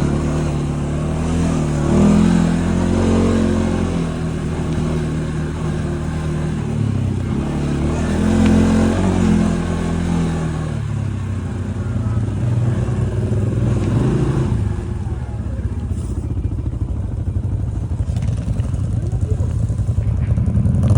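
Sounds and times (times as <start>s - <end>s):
quad bike engine running: 0.0s - 20.9s.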